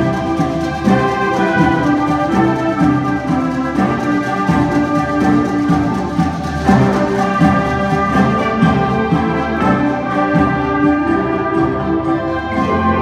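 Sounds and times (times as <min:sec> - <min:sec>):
concert band playing: 0:00.0 - 0:13.0.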